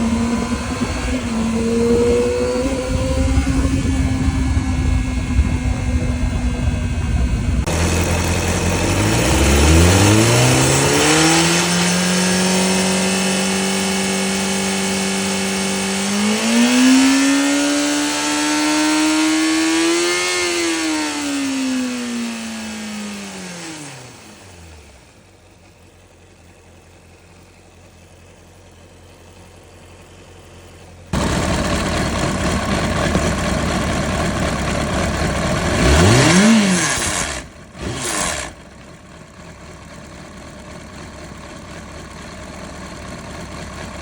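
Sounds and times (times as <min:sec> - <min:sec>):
motorcycle whirring and hissing: 0:00.0 - 0:44.0.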